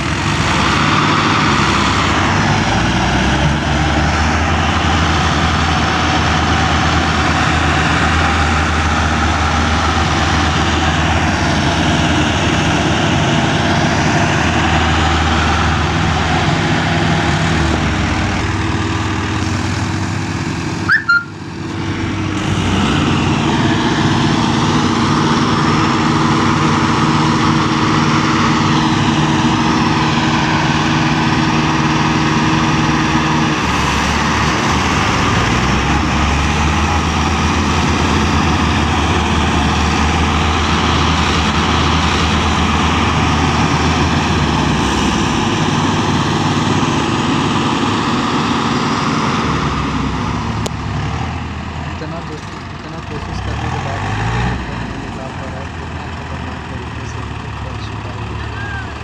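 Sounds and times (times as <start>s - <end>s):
diesel tractor engines under load: 0.0s - 59.0s.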